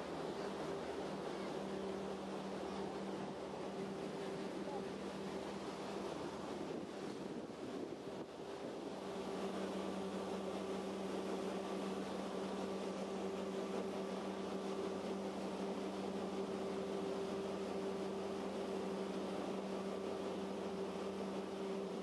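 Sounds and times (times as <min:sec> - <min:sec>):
boat engine humming: 0:00.0 - 0:22.0
paddle wheel churning water: 0:00.0 - 0:22.0.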